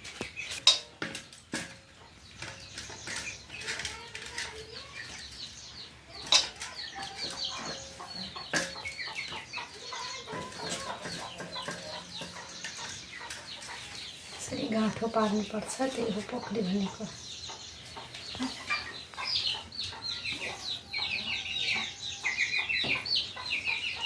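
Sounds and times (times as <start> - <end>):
chickens clucking: 0.0 - 24.0
chicks peeping: 0.0 - 24.0.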